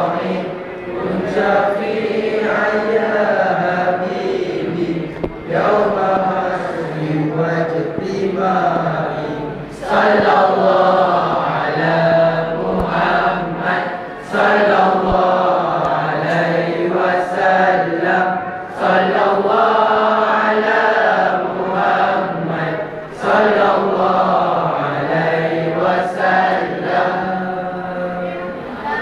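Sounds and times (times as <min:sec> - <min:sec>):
boys singing in unison: 0:00.0 - 0:29.0.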